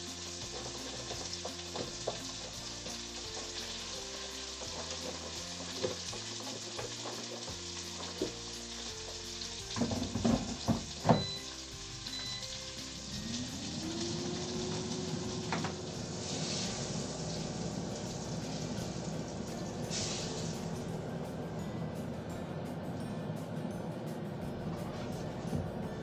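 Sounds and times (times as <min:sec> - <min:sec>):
food sizzling in a hot pan: 0:00.0 - 0:21.6.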